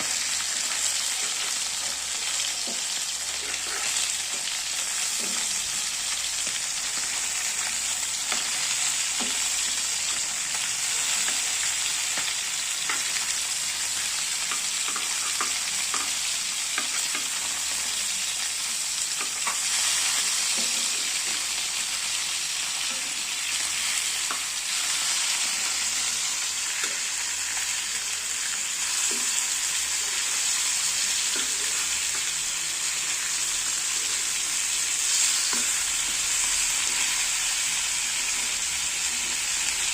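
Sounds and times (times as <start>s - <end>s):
fish frying in oil: 0.0s - 39.9s.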